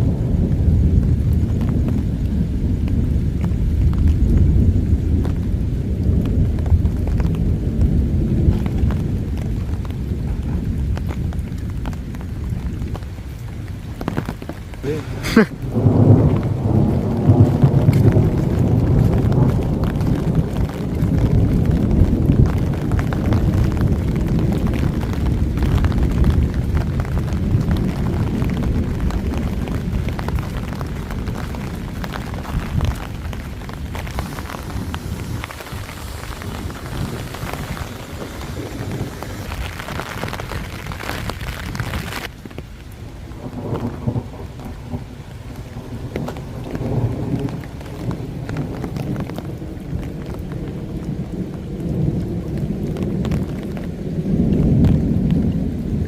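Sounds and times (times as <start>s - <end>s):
rolling thunder: 0.0s - 42.3s, 43.2s - 56.0s
rain hiss: 0.0s - 56.0s
raindrop ticks: 0.0s - 56.0s.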